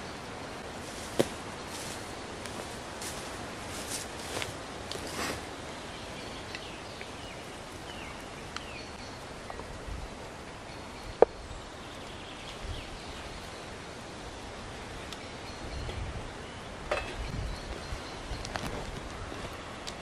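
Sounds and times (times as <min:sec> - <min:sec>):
woodland background noise: 0:00.0 - 0:20.0.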